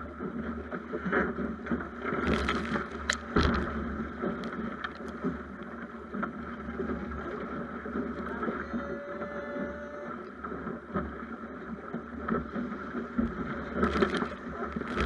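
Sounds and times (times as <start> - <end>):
water rushing along hull: 0.0 - 15.0.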